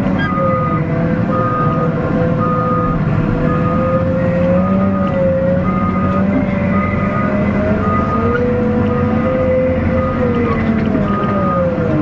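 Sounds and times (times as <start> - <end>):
diesel engine running with whine: 0.0 - 12.0
reversing alarm beeping: 0.0 - 12.0.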